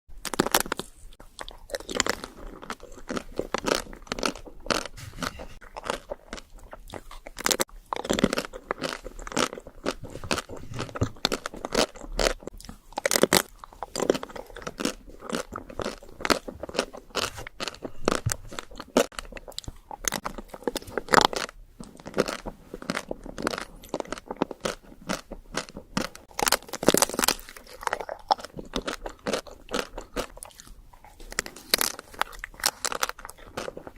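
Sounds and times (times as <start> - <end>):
person chewing crunchy food: 0.1 - 33.9.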